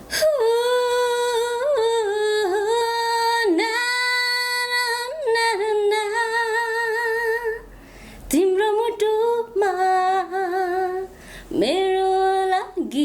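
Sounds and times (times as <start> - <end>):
woman singing wordlessly: 0.1 - 7.7, 8.3 - 13.0.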